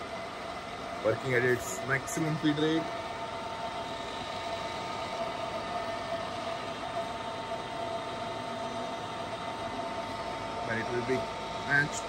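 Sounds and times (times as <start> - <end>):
drilling machine humming: 0.0 - 12.0
steady high machine tone: 0.0 - 12.0.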